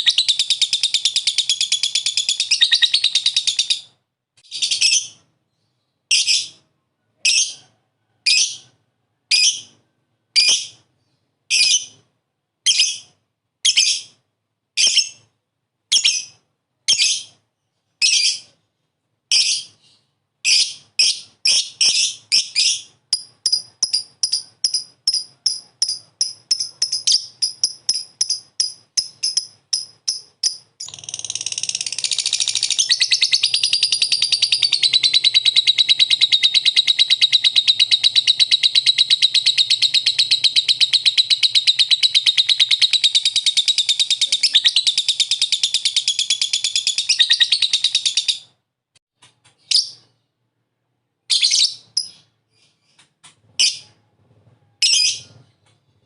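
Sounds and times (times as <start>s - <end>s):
lovebird chirps: 0.0s - 7.7s, 8.3s - 9.8s, 10.4s - 12.0s, 12.6s - 14.2s, 14.8s - 18.6s, 19.3s - 48.5s, 51.3s - 53.0s, 54.8s - 55.5s.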